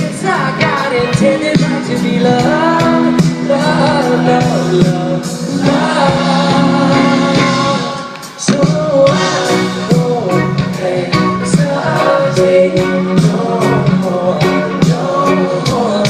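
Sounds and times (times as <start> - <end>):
live pop band playing: 0.0 - 16.0
person singing: 0.0 - 16.0.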